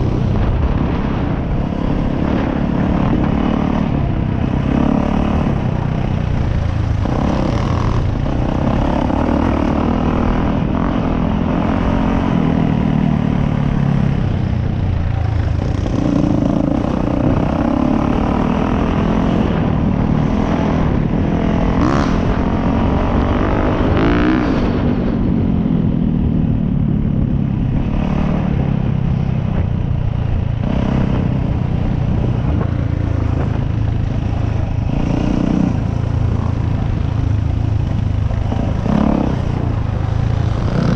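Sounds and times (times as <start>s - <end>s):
dirt bike engine revving: 0.0s - 14.2s, 15.2s - 25.3s, 30.6s - 40.9s.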